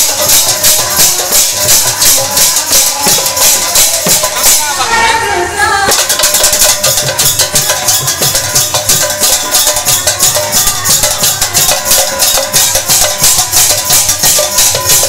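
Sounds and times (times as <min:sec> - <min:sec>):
brass hand cymbals clashing: 0:00.0 - 0:04.8, 0:06.0 - 0:15.0
hand-played barrel drum: 0:00.0 - 0:05.2, 0:05.9 - 0:15.0.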